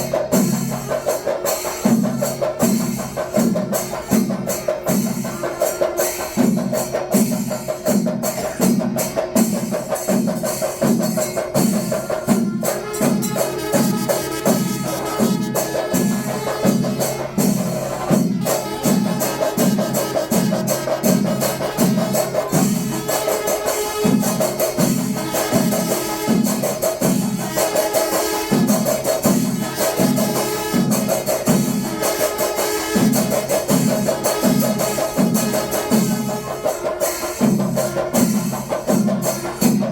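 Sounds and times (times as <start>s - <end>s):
cymbal clatter: 0.0s - 39.9s
drums beating steady pulse: 0.0s - 39.9s.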